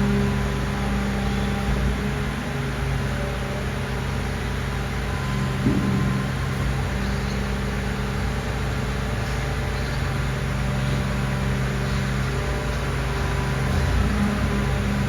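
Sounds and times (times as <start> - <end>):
diesel truck engine humming: 0.0 - 15.0.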